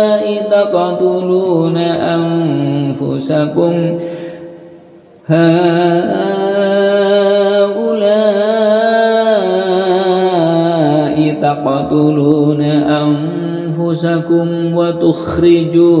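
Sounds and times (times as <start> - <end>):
person reciting melodically: 0.0 - 4.6, 5.2 - 16.0.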